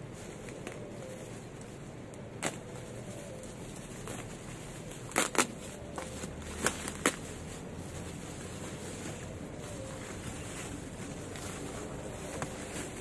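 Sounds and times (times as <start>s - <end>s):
steady background noise: 0.0s - 13.0s
bubble wrap crinkling: 2.4s - 13.0s.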